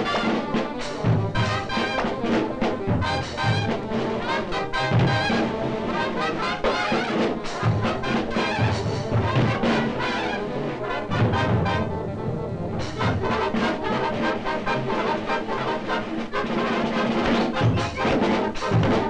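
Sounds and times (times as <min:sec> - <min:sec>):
lively brass band music: 0:00.0 - 0:19.0.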